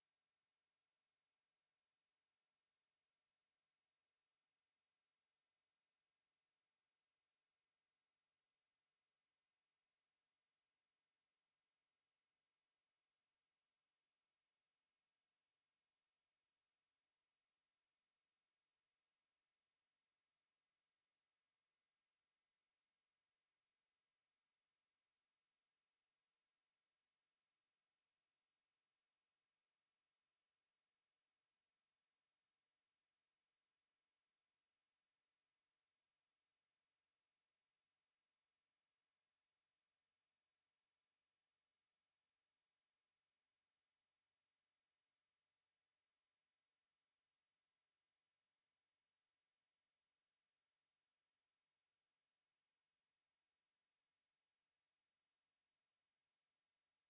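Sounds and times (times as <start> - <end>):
high-pitched sine test tone: 0.0 - 57.0.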